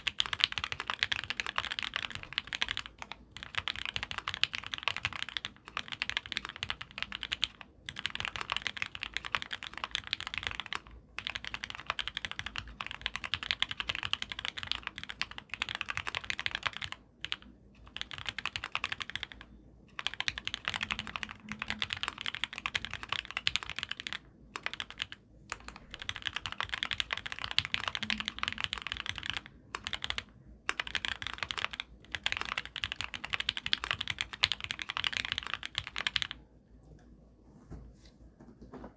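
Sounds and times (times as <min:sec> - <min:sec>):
mechanical keyboard typing: 0:00.0 - 0:36.4.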